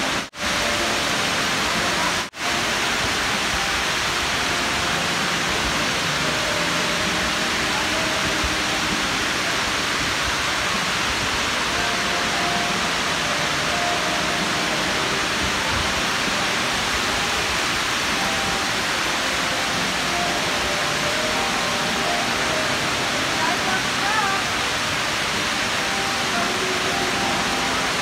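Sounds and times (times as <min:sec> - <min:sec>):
waterfall rushing into pool: 0:00.0 - 0:28.0.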